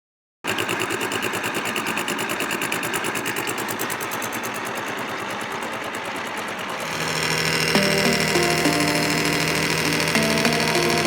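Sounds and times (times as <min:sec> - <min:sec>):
small motor pulsing rhythmically: 0:00.5 - 0:11.0.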